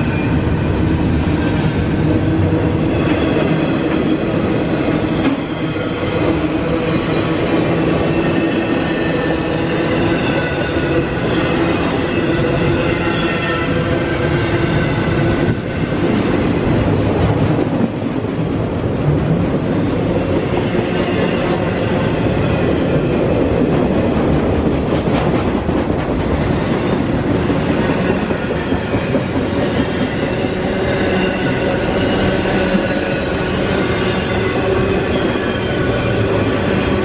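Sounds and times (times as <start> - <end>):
train wheels on rails: 0.0 - 37.0.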